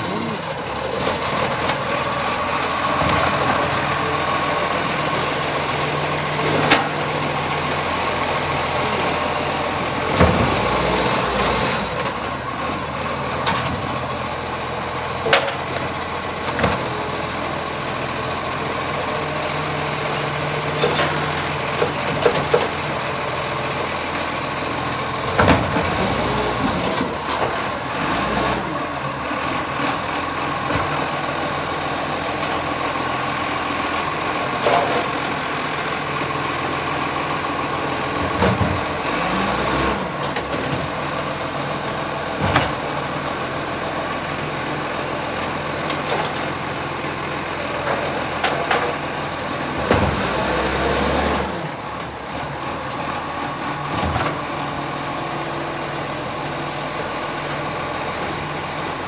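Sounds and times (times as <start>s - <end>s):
bins and hydraulic arm clanking: 0.0s - 17.5s, 20.7s - 23.8s, 24.5s - 59.0s
truck engine idling: 0.0s - 59.0s.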